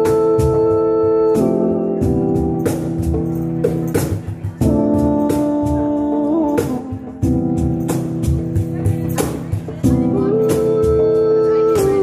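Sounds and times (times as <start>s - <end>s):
keyboard organ chords: 0.0s - 12.0s
steady drum beat: 0.0s - 12.0s.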